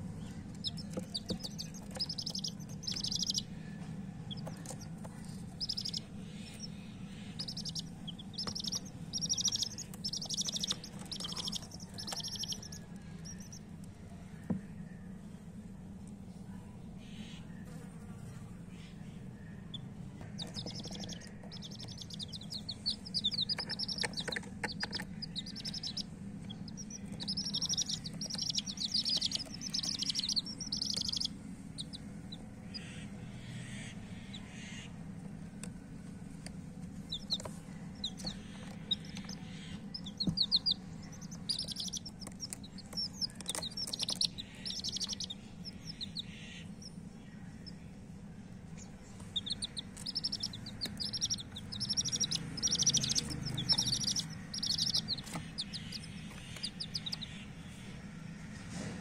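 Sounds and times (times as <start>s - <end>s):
chicks peeping: 0.0s - 14.9s, 17.0s - 59.0s
steady low hum: 0.0s - 59.0s.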